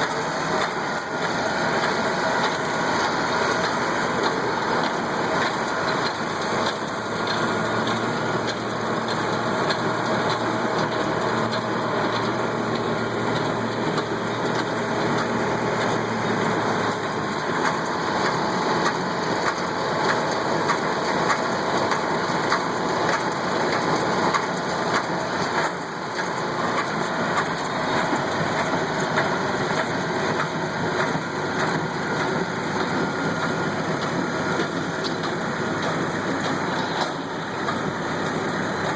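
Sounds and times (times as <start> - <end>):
baler mechanism clicks and clatters: 0.0 - 38.9
tractor diesel engine running: 0.0 - 38.9.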